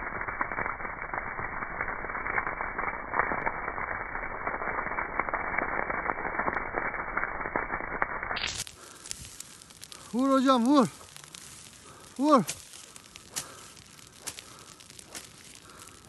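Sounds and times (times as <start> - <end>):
brush fire crackling: 0.0 - 16.0.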